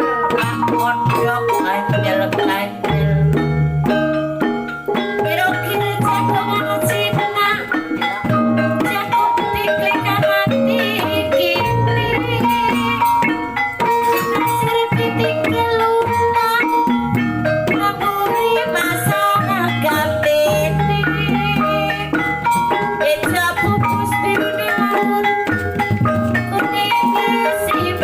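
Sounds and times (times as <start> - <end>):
drums: 0.0 - 28.0
gamelan music: 0.0 - 28.0
tuned metallic percussion: 0.0 - 28.0.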